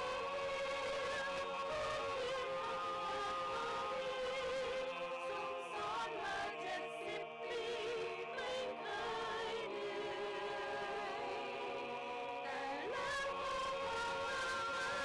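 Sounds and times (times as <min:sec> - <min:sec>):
choir singing with vibrato: 0:00.0 - 0:15.0.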